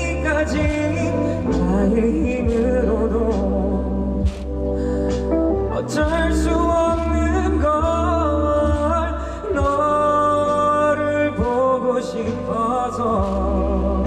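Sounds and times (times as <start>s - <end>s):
instrumental accompaniment: 0.0s - 14.0s
person singing a slow song: 0.0s - 14.0s.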